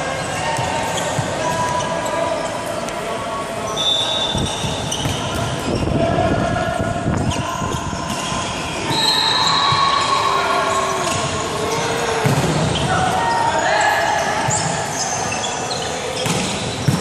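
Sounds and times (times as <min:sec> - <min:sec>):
sneakers squeaking on floor: 0:00.0 - 0:03.0, 0:03.6 - 0:06.0, 0:07.1 - 0:17.0.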